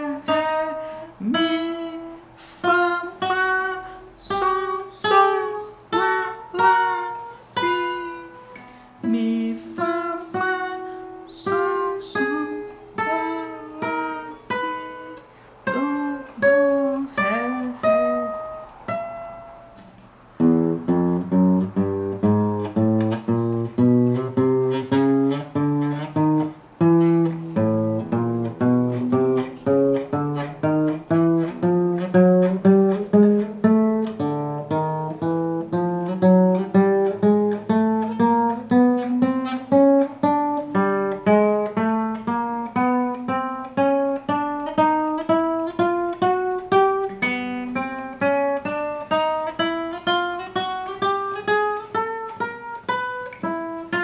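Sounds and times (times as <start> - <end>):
acoustic guitar plucked notes: 0.0 - 54.0.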